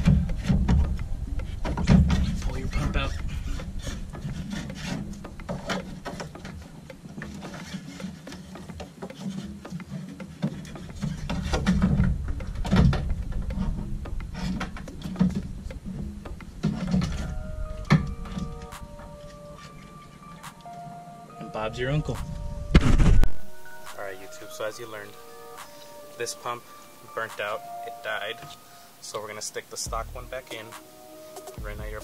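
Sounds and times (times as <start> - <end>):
rubbing and scraping: 0.0 - 20.7, 22.0 - 32.0
music: 0.0 - 32.0.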